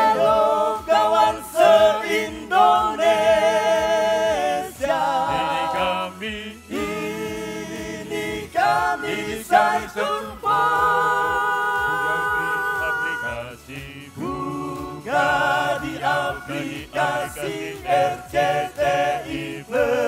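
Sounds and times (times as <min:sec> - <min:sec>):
male vocal group singing harmony: 0:00.0 - 0:20.0.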